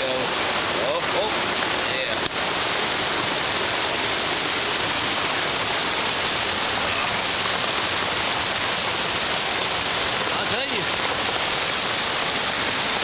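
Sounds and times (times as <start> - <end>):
creek rushing in flood: 0.0 - 13.0.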